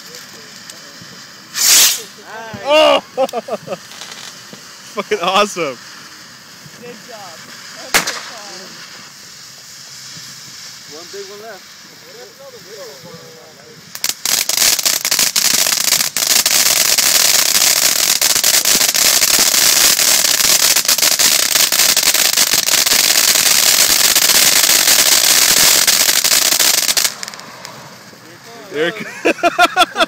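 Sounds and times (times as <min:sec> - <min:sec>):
firework crackling and popping: 0:00.0 - 0:30.0.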